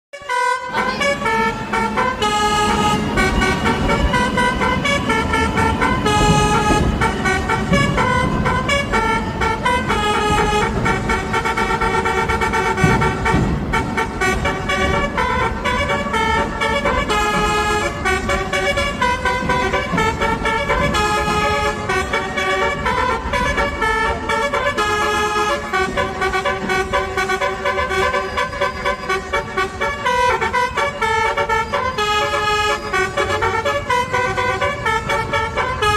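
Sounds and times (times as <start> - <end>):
horn-like tune: 0.1 - 35.9.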